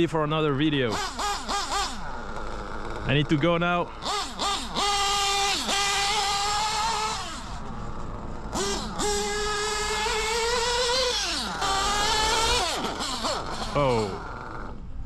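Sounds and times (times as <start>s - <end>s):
nitro engine revving: 0.0s - 15.0s.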